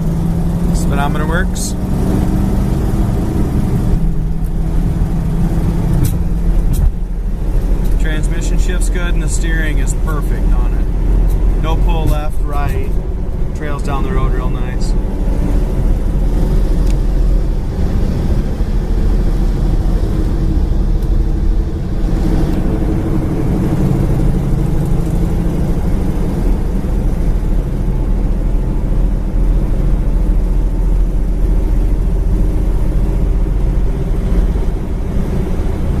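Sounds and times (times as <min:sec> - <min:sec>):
car engine running: 0:00.0 - 0:36.0
road and tyre rumble: 0:00.0 - 0:36.0.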